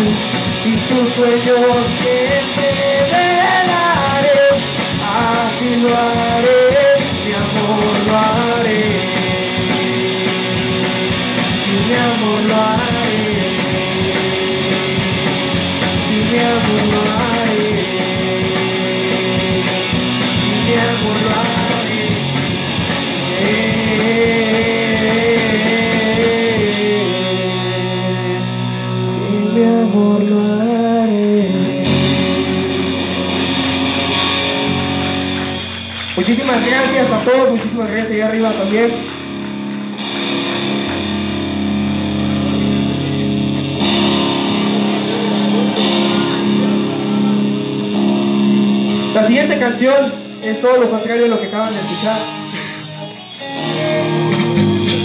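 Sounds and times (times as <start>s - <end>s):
live rock band playing: 0.0s - 55.0s
held guitar chord ringing: 8.0s - 37.9s, 38.5s - 55.0s.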